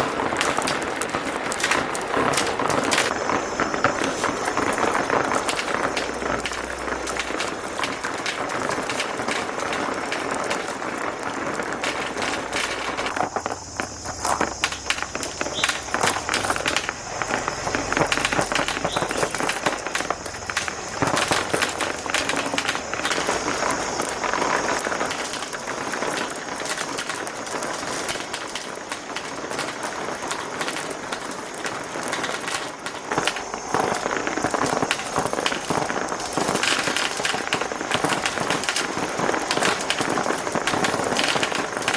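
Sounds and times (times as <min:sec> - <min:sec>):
marbles rattling down plastic tracks: 0:00.0 - 0:41.9.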